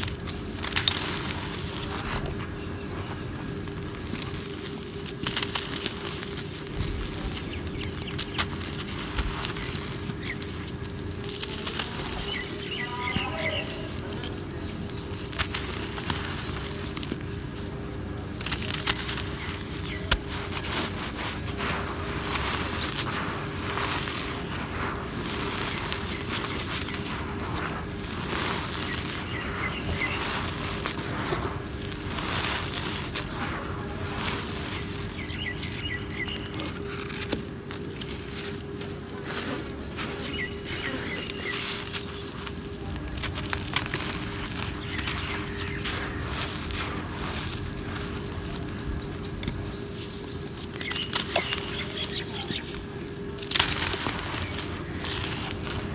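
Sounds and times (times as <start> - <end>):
faint bird chirping: 0.0 - 55.9
hands crushing dry cement: 0.0 - 55.9
powder pattering: 0.0 - 55.9.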